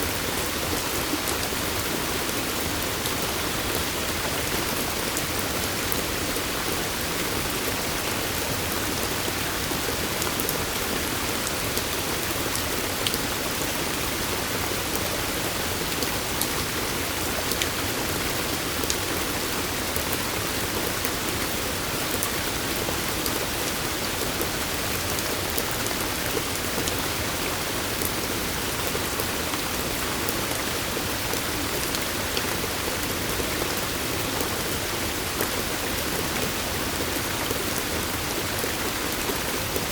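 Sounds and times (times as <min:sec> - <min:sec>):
steady water noise: 0:00.0 - 0:39.9.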